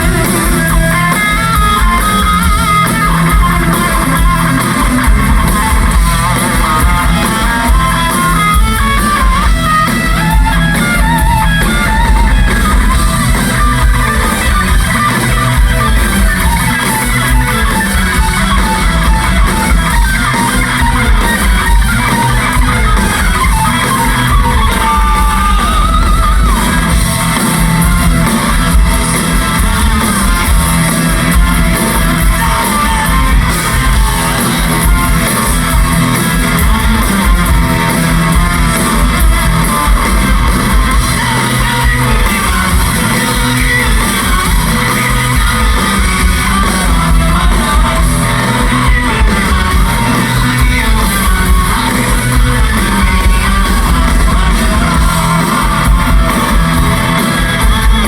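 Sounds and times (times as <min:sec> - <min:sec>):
bass and drums: 0:00.0 - 0:58.0
electric guitars: 0:00.0 - 0:58.0.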